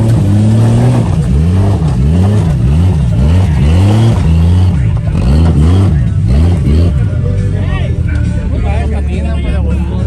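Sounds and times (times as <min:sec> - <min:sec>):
vehicle engine revving: 0:00.0 - 0:10.0.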